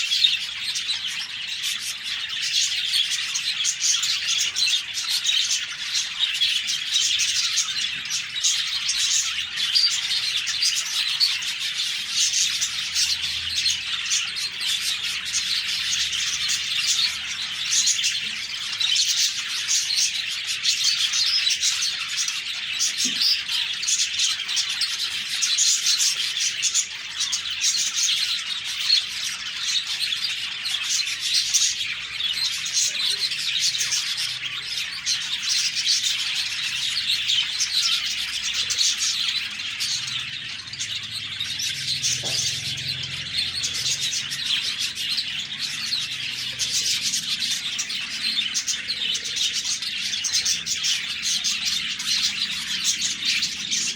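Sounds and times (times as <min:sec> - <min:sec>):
budgerigars chirping: 0:00.0 - 0:53.9.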